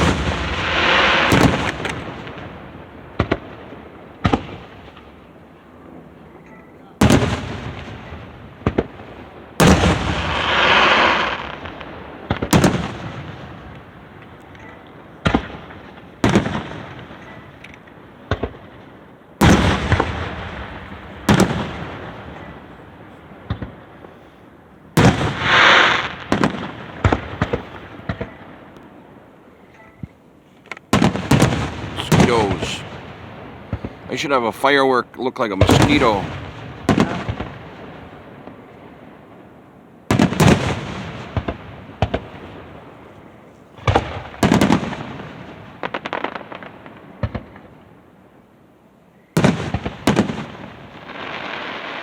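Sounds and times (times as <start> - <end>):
fireworks bangs with echo: 0.0 - 5.3, 6.8 - 29.0, 30.9 - 39.4, 40.0 - 43.1, 43.8 - 47.9, 49.3 - 52.0
fireworks crackling: 0.0 - 6.3, 7.0 - 29.4, 30.5 - 48.0, 49.4 - 52.0.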